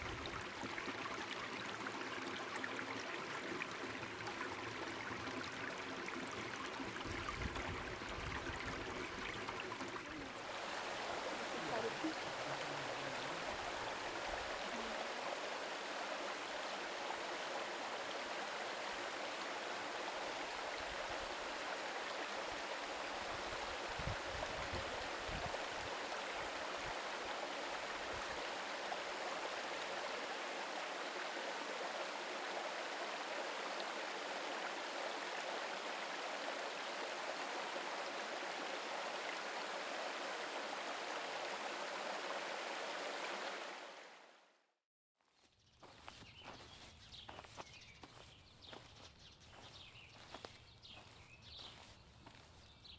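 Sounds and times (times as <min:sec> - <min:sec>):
stream water rushing: 0:00.0 - 0:44.4.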